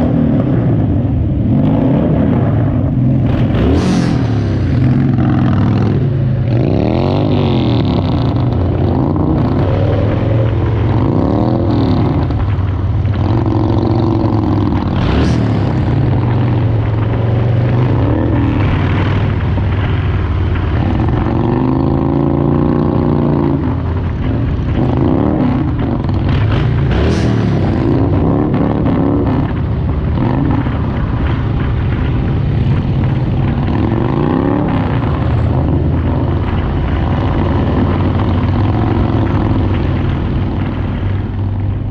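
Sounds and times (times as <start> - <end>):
motorcycle engine revving: 0.0 - 41.9
road noise: 0.0 - 41.9
wind noise: 0.0 - 41.9.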